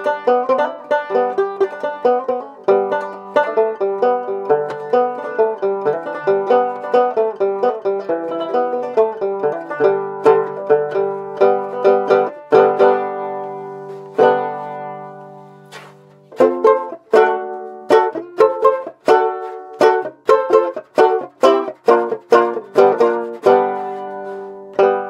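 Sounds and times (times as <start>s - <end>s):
banjo strumming chords: 0.0s - 25.0s.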